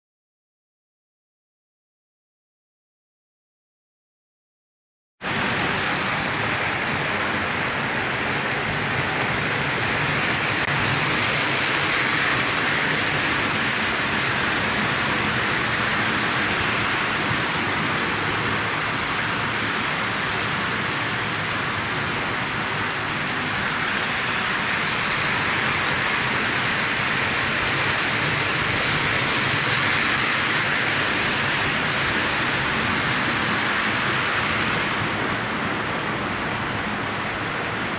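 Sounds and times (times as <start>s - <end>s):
toy train rumbling on track: 5.3s - 37.9s.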